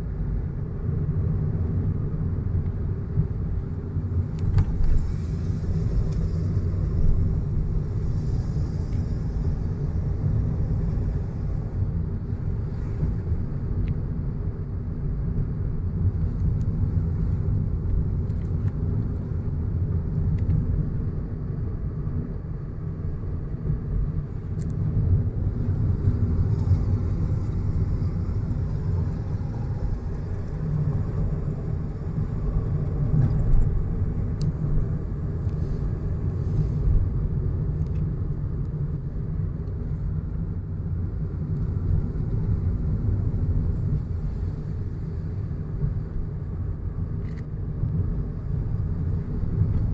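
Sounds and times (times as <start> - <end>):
car road and engine rumble: 0.0 - 49.9.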